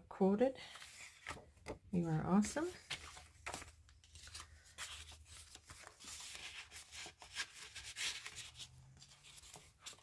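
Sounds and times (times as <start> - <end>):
paper and card rustling: 0.6 - 10.0.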